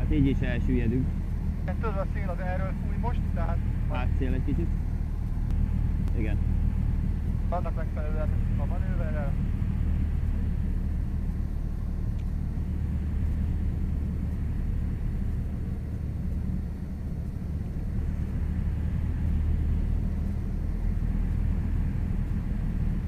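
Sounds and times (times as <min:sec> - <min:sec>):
propeller engine idling drone: 0:00.0 - 0:23.0.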